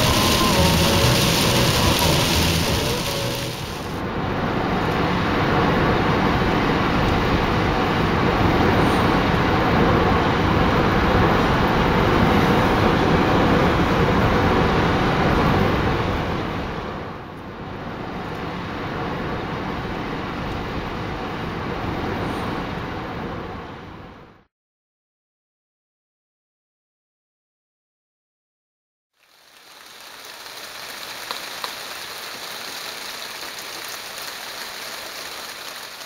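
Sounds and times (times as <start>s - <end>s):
road and tyre noise on wet road: 0.0s - 24.5s, 29.2s - 36.0s.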